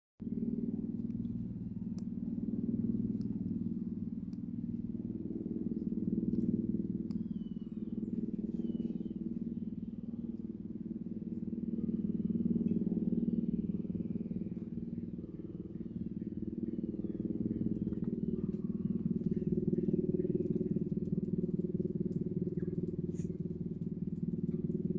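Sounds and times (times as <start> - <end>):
helicopter drone: 0.2 - 24.9.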